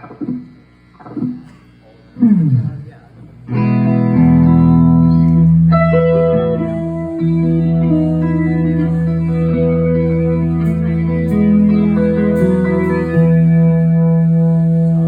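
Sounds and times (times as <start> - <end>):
electric guitar ringing chords: 0.0 - 15.0.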